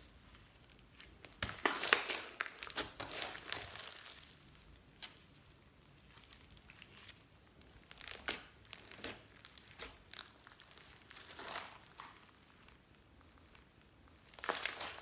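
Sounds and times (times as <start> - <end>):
slime crackling and popping: 0.1 - 15.0.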